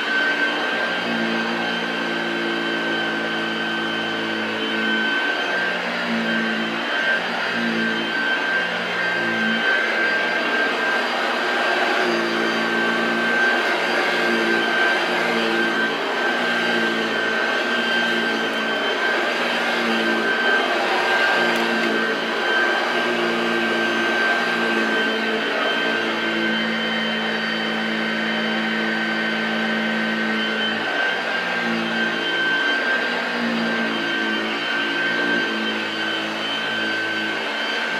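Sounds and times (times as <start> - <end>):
upright vacuum cleaner running: 0.0 - 37.9.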